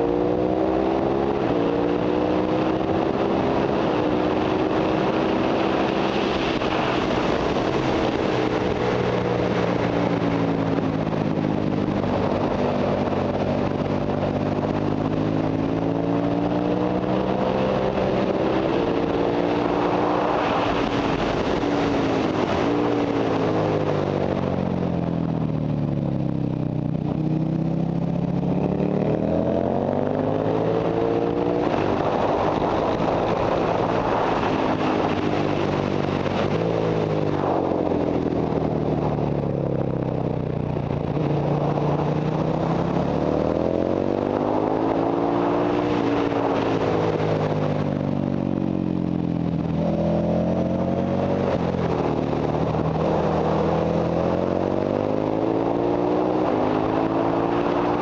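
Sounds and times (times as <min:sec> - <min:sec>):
motorcycle engine at speed: 0:00.0 - 0:58.0
wind noise: 0:00.0 - 0:58.0.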